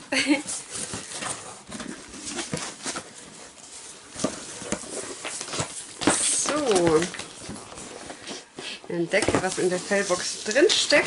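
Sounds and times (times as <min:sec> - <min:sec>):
cardboard rustling and scraping: 0:00.2 - 0:11.0.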